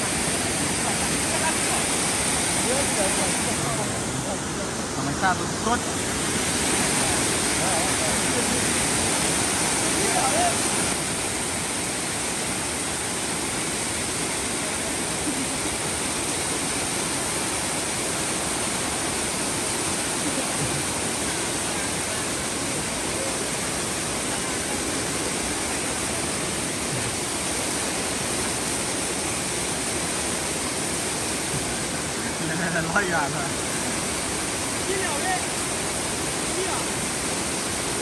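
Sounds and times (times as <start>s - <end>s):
river water rushing over rapid: 0.0s - 38.0s.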